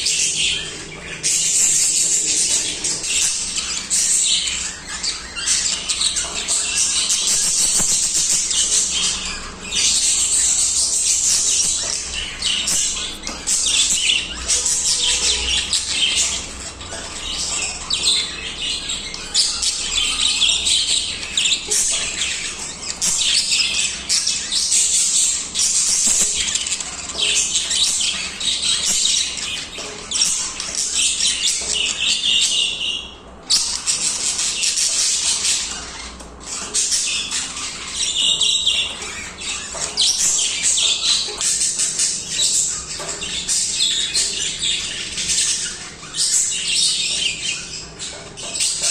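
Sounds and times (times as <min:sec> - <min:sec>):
budgies warbling and chirping: 0:00.0 - 0:48.9.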